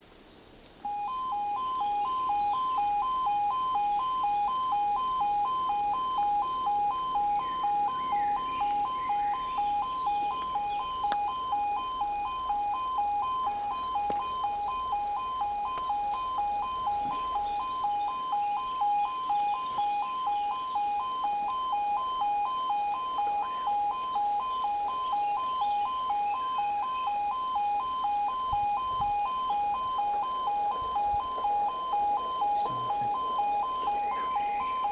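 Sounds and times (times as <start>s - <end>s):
level crossing two-tone alarm: 0.8s - 34.9s.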